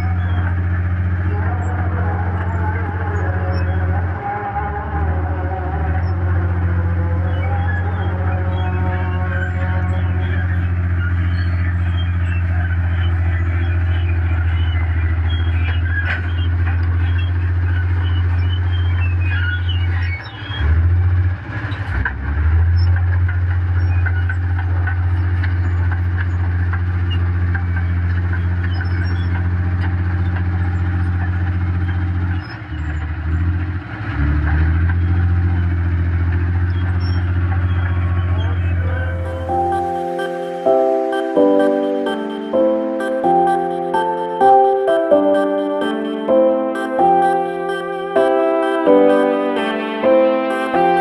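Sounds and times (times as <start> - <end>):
truck diesel engine running: 0.0 - 51.0.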